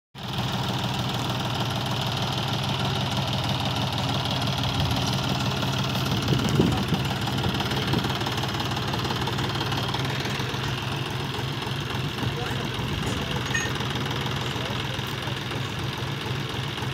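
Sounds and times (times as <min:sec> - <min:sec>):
tractor diesel engine idling: 0:00.2 - 0:16.9.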